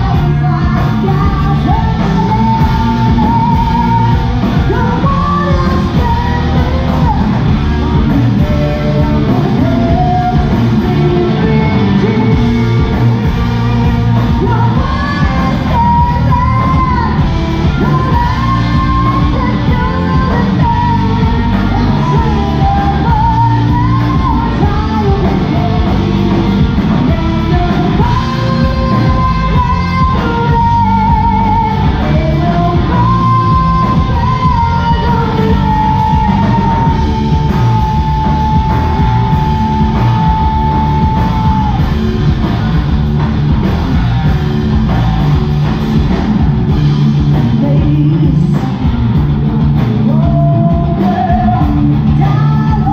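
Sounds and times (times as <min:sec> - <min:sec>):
woman singing lead: 0:00.0 - 0:42.8, 0:43.9 - 0:52.9
rock band playing: 0:00.0 - 0:52.9.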